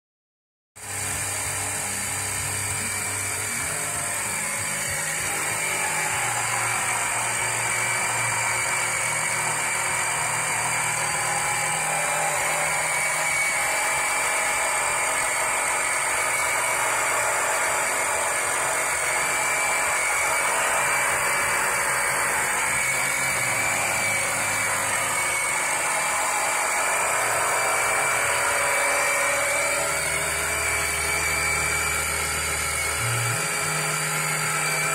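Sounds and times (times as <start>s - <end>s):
electric pump whining: 0.8s - 34.9s.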